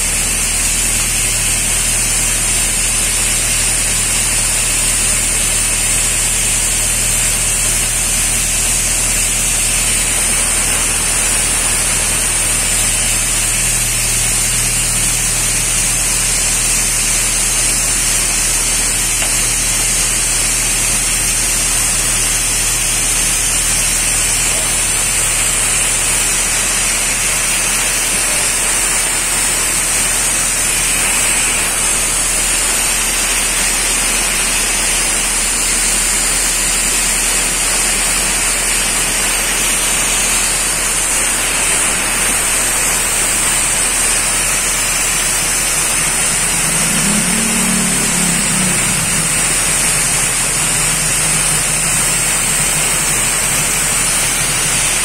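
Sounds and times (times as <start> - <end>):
motor humming: 0.0 - 55.0
paint sprayer hissing: 0.0 - 55.0.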